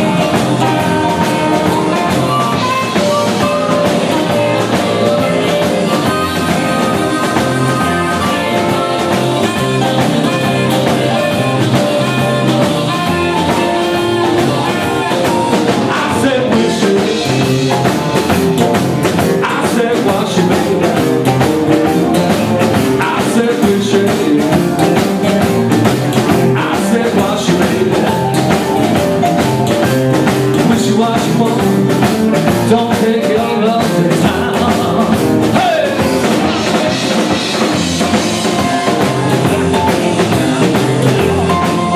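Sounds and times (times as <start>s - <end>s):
live rock and roll band: 0.0s - 41.9s.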